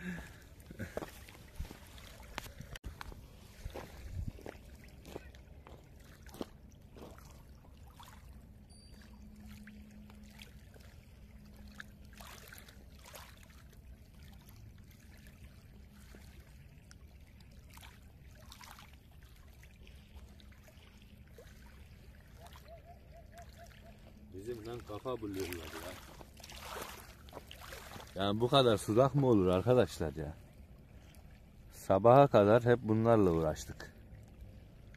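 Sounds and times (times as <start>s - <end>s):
lake water lapping: 0.0s - 34.9s
small water splashes: 0.0s - 34.9s.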